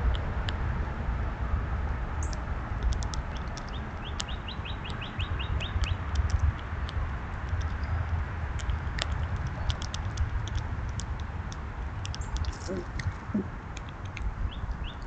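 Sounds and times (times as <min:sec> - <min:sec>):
steady low rumble: 0:00.0 - 0:15.0
sharp ticks: 0:02.2 - 0:15.0
songbird singing: 0:02.2 - 0:15.0.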